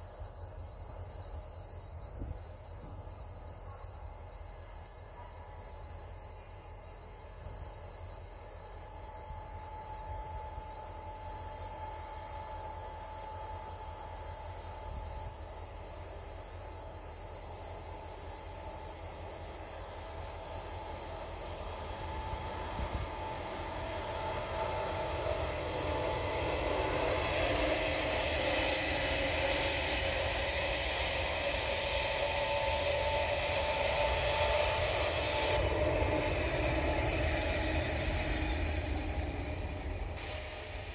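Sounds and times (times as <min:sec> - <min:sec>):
electric train rolling and whining: 0:00.0 - 0:40.9
insects trilling: 0:00.0 - 0:40.9.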